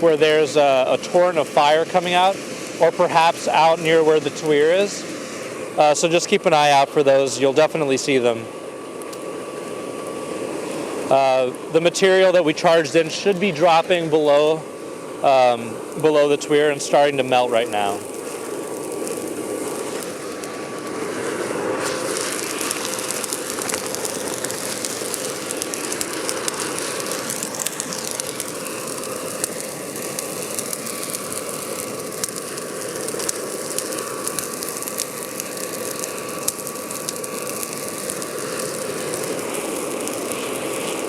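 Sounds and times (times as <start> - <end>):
charcoal crackling and popping: 0.0 - 41.0
faint hum: 0.0 - 41.0
rush of air and fire: 0.0 - 41.0.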